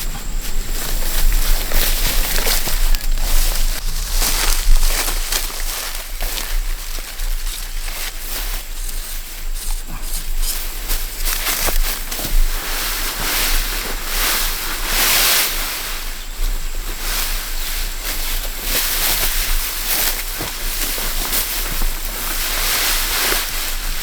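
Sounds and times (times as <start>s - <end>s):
dry rice stalks rustling: 0.0s - 24.0s.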